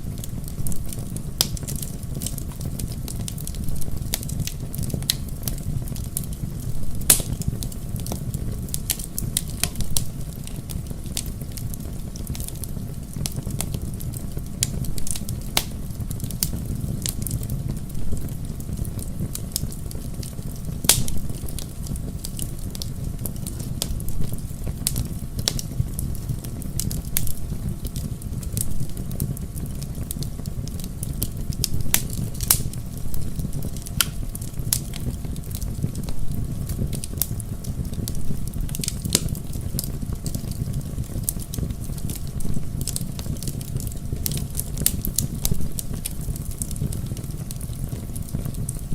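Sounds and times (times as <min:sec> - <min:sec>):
bonfire flames rumbling: 0:00.0 - 0:48.9
burning logs crackling and popping: 0:00.0 - 0:48.9.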